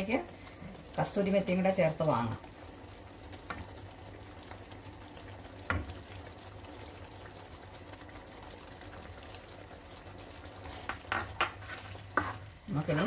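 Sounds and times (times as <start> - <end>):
curry simmering and bubbling: 0.0 - 13.0.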